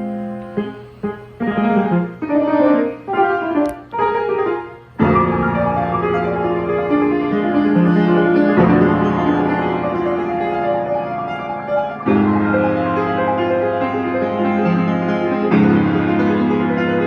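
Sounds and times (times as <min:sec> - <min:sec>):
player piano chords: 0:00.0 - 0:17.0.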